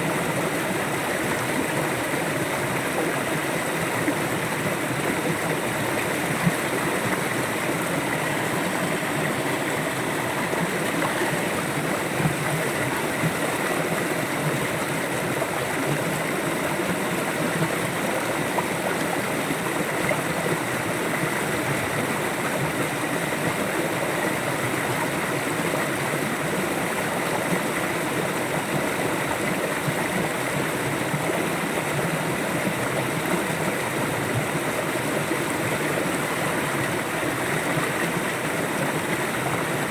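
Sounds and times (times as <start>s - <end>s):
river water rushing and gurgling: 0.0s - 39.9s.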